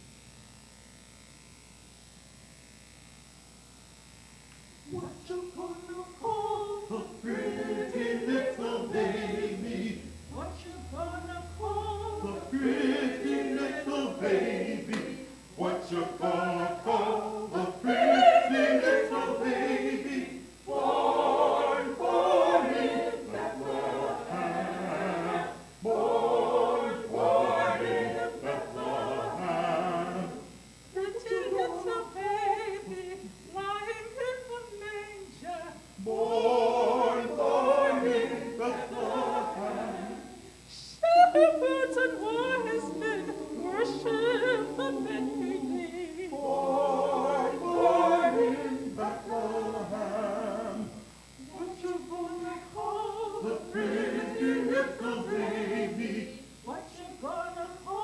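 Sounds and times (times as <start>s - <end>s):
choir singing a hymn: 4.9s - 33.3s, 34.2s - 58.0s.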